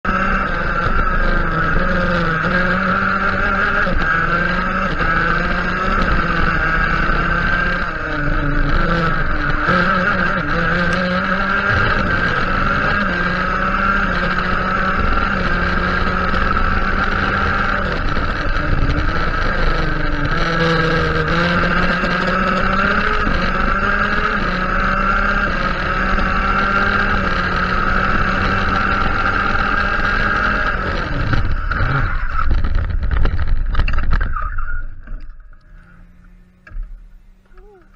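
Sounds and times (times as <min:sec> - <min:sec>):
kart engine revving: 0:00.0 - 0:37.9.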